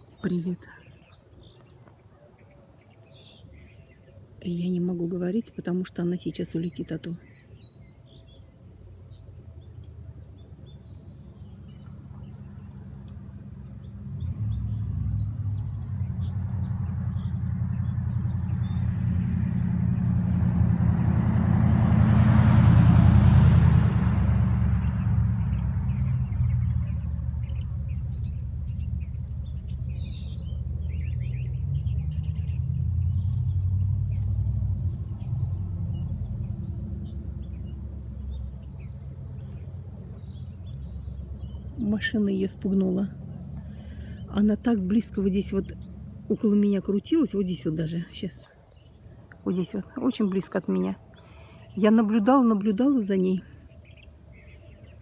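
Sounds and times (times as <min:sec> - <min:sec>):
small birds chirping: 0:00.0 - 0:22.0, 0:24.1 - 0:55.0
car engine rumble passing: 0:08.2 - 0:55.0.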